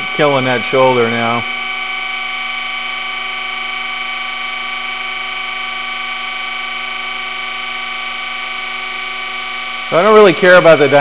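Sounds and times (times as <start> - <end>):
surface grinder whine: 0.0 - 11.0.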